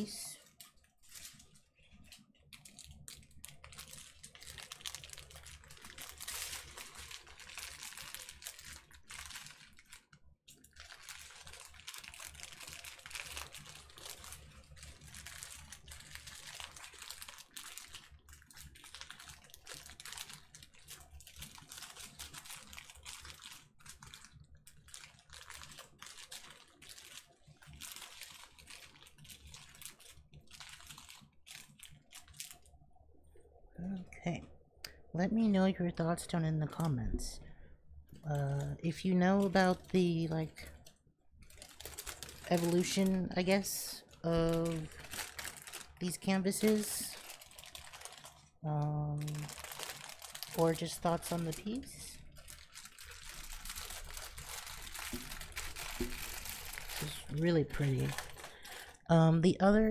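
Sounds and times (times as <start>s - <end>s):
plastic crinkling: 0.0s - 32.8s, 38.1s - 59.1s.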